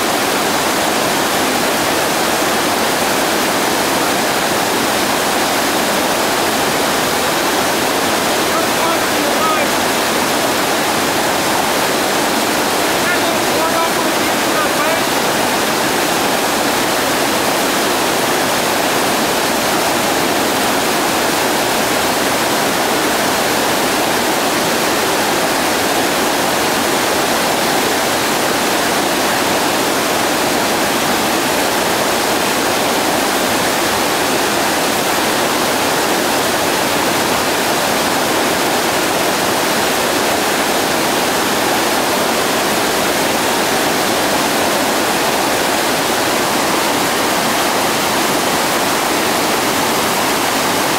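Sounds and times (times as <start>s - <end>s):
whitewater rapid rushing: 0.0s - 50.9s.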